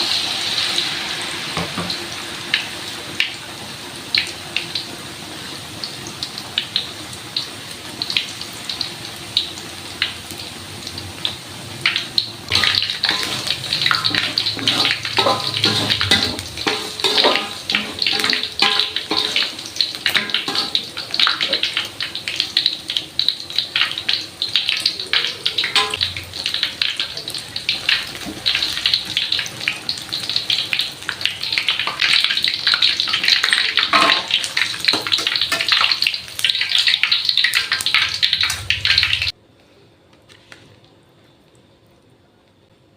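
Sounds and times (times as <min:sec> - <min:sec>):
food sizzling in hot oil: 0:00.0 - 0:39.4.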